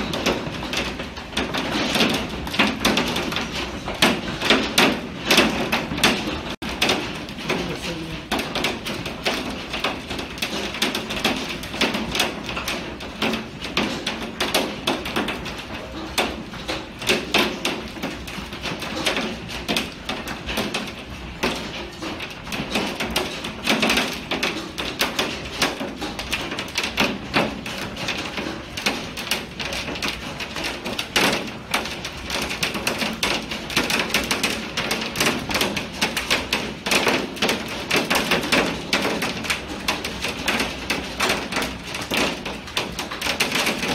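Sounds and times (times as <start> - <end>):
hail pelting window glass: 0.0 - 43.9.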